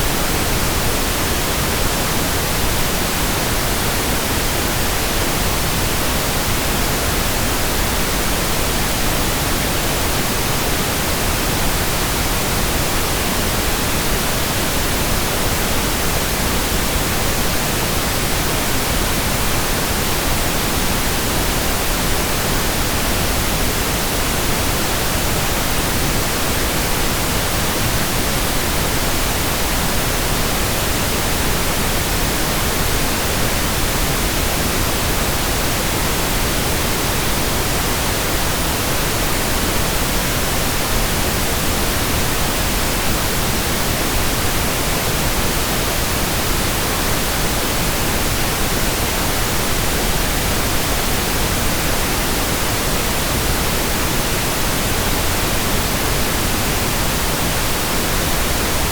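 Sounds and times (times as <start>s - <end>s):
steady pink noise: 0.0s - 58.9s.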